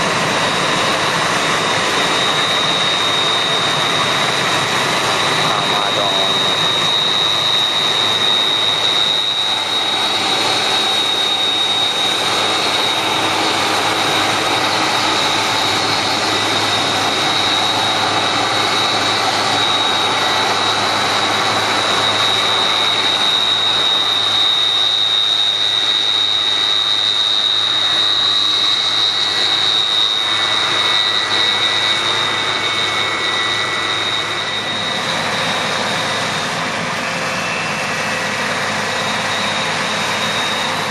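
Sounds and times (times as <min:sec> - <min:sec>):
combine harvester running: 0:00.0 - 0:40.9
high machine whine: 0:00.0 - 0:40.9.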